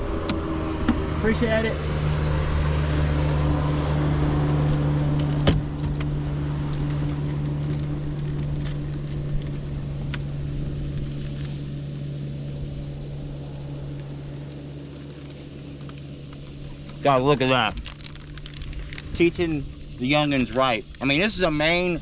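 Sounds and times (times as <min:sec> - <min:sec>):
watercraft engine droning: 0:00.0 - 0:22.0.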